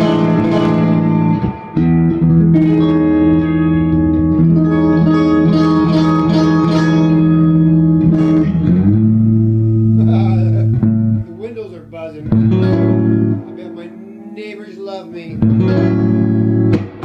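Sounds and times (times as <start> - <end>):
loud electric guitar notes: 0.0 - 17.0.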